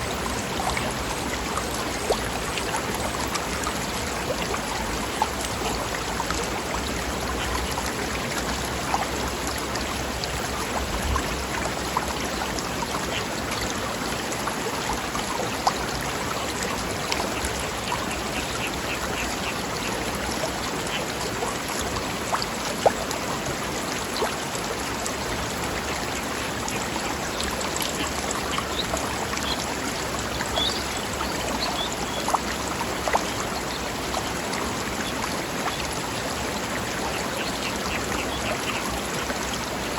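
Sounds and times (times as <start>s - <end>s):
stream running over rocks: 0.0s - 39.9s
water splashes: 0.0s - 39.9s.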